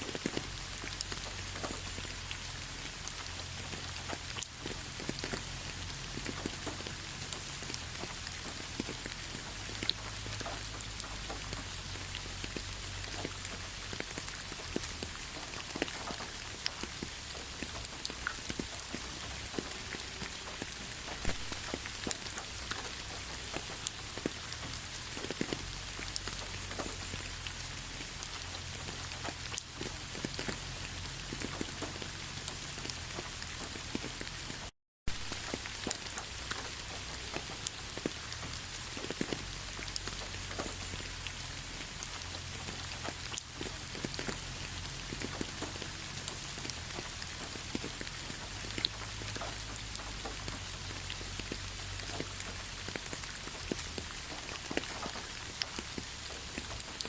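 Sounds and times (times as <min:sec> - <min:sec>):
rain drops striking a surface: 0:00.0 - 0:57.0.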